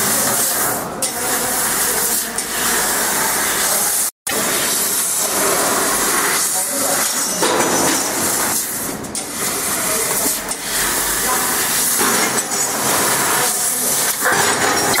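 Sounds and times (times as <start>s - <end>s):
laser cutter hissing: 0.0s - 15.0s.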